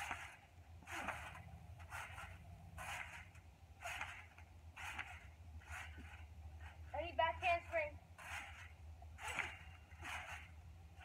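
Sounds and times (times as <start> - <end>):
steady low hum: 0.0 - 11.0
trampoline mat and springs swishing: 0.0 - 11.0.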